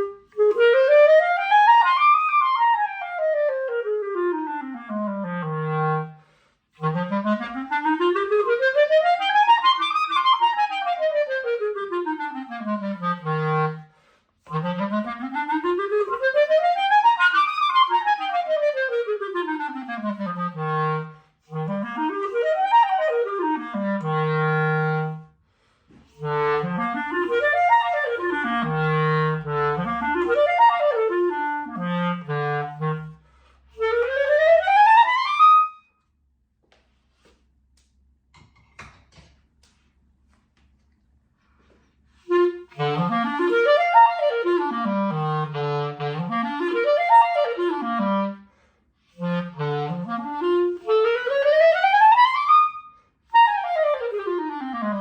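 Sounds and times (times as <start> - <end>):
clarinet playing scales: 0.0 - 36.0, 42.1 - 55.0.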